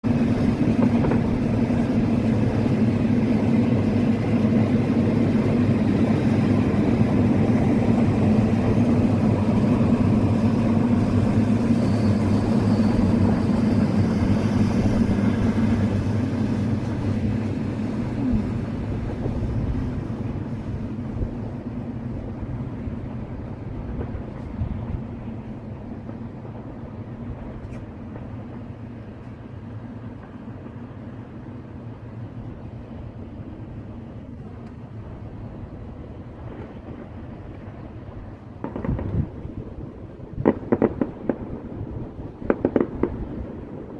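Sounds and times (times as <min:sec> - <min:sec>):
train rumbling past: 0:00.0 - 0:43.9.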